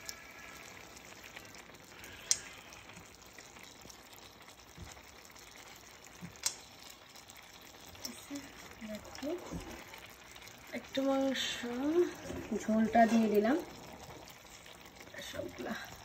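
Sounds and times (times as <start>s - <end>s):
rice bubbling in a pan: 0.0s - 16.0s.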